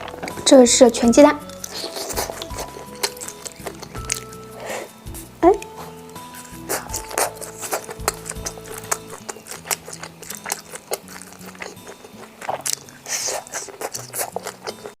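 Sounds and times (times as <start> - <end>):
biting crunching and chewing: 0.0 - 0.5, 1.4 - 15.0
background music held notes: 0.0 - 15.0.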